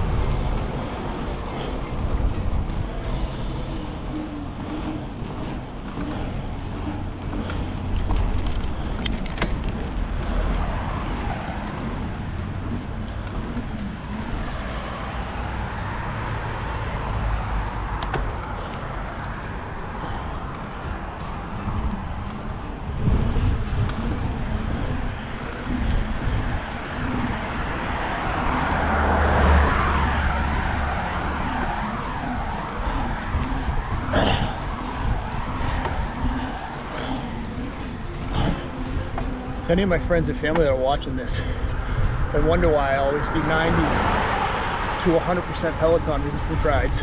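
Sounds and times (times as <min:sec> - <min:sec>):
bike clicks and rattles: 0:00.0 - 0:47.0
car passing: 0:00.0 - 0:47.0
wind and tyres rumbling: 0:00.0 - 0:47.0.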